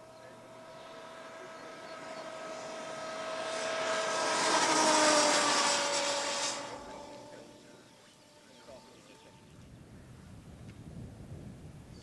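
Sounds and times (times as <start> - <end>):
electric motorcycle whining past: 0.0 - 9.7.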